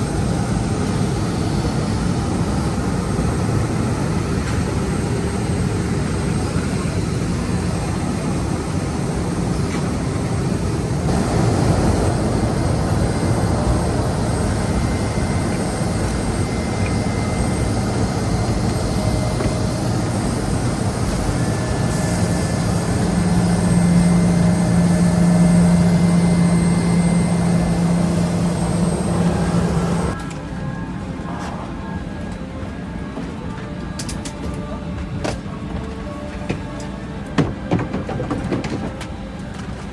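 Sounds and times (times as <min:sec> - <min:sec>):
low steady hum: 0:00.0 - 0:33.6
jet engines droning: 0:00.0 - 0:39.9.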